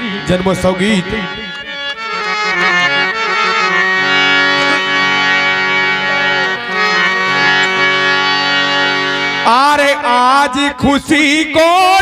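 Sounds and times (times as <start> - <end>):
harmonium playing chords and melody: 0.0 - 12.0.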